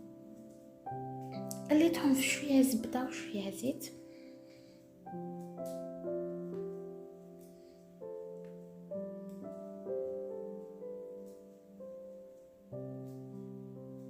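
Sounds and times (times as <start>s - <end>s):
gentle piano chords: 0.0s - 14.0s.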